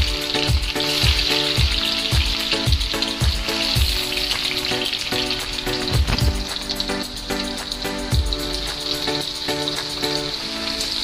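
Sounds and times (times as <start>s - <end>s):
food sizzling in hot oil: 0.0s - 11.0s
music with low beat: 0.0s - 11.0s.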